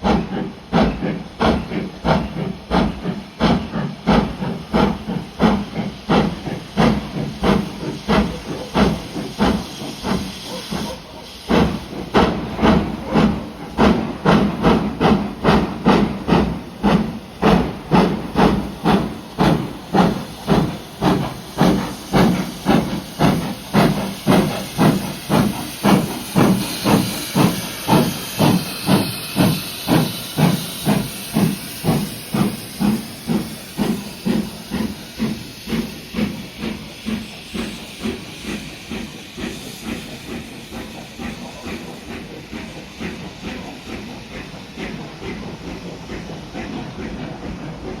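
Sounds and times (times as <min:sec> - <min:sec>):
steam hissing: 0:00.0 - 0:48.0
steam locomotive exhaust beats: 0:00.0 - 0:48.0.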